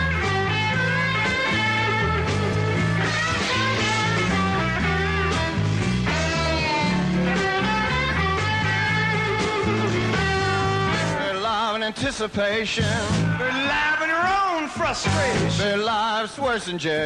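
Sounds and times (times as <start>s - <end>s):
blues-rock band playing: 0.0s - 17.0s.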